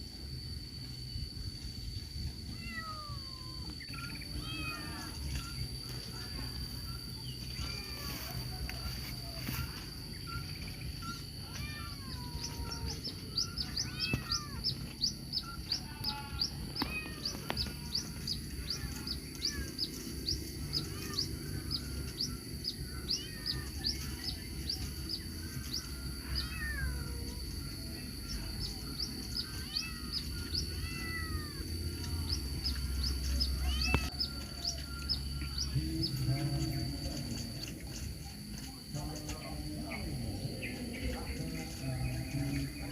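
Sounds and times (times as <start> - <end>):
insect trill: 0.0 - 42.9.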